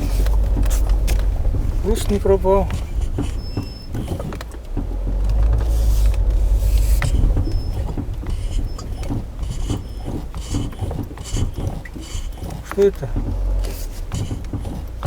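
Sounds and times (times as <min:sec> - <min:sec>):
car rolling with low rumble: 0:00.0 - 0:15.0
suspension crunching and creaking: 0:00.0 - 0:15.0.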